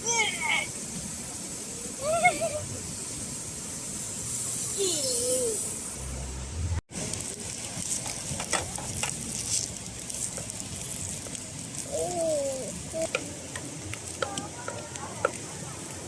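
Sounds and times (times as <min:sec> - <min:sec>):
steady sizzling hiss: 0:00.0 - 0:16.0.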